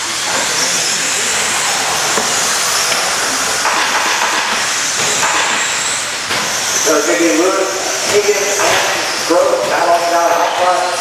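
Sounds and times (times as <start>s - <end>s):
high electric motor whine: 0.0s - 11.0s.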